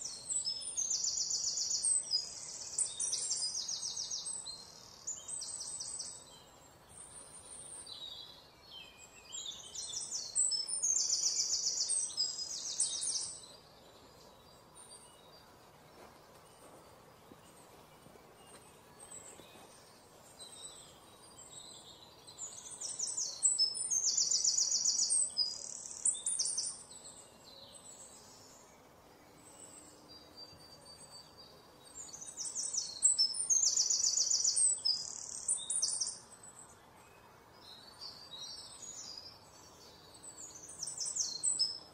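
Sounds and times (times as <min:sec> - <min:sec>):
faint outdoor background noise: 0:00.0 - 0:41.9
small birds trilling: 0:00.0 - 0:41.9.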